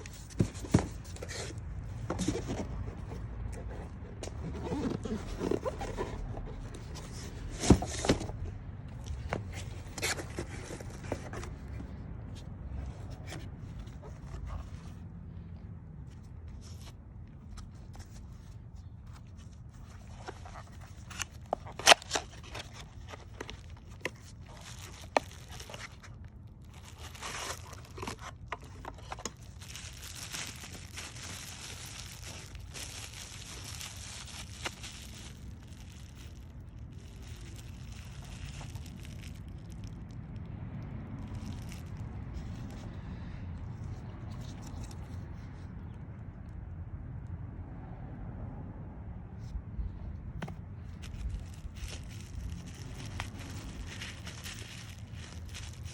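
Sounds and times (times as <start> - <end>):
crunching scraping and crinkling: 0.0 - 46.1, 50.4 - 55.9.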